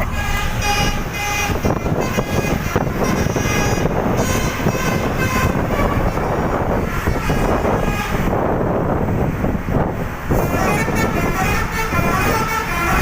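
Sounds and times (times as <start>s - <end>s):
bus musical air horn: 0.0s - 9.3s, 10.2s - 13.0s
engine and road rumble: 0.0s - 13.0s.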